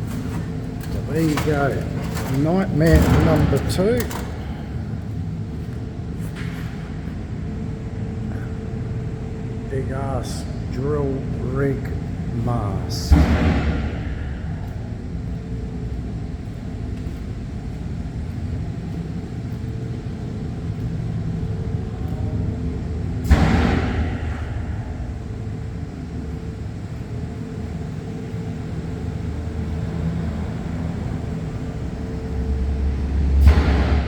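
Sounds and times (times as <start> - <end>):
sandblasting equipment rumble: 0.0 - 34.0.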